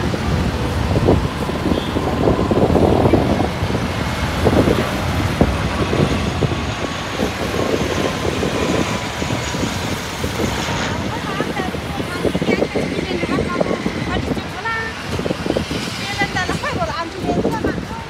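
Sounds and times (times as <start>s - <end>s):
turboprop airliner flying overhead: 0.0s - 18.0s
wind buffeting microphone: 0.0s - 18.0s.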